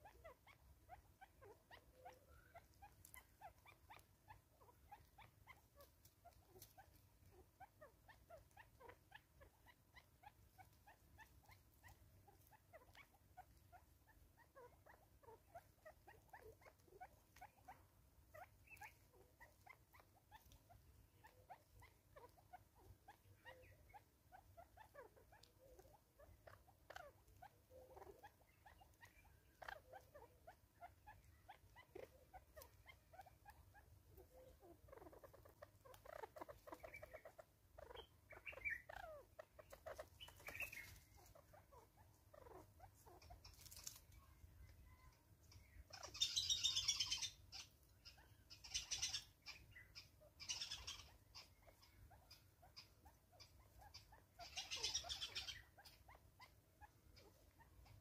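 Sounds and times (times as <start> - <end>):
small pecks and nibbling clicks: 0.0 - 58.0.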